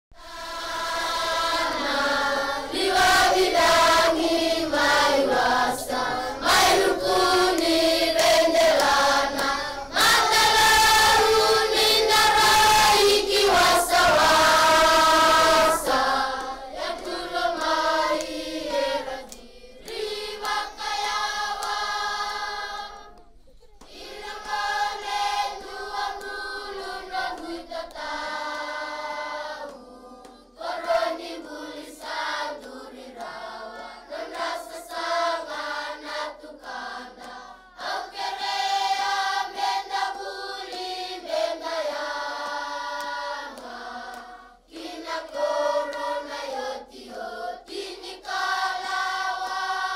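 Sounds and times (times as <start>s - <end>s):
choir singing: 0.2s - 49.9s.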